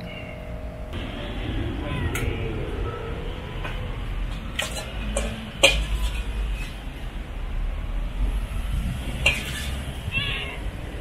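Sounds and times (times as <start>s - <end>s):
low street rumble: 0.0s - 11.0s.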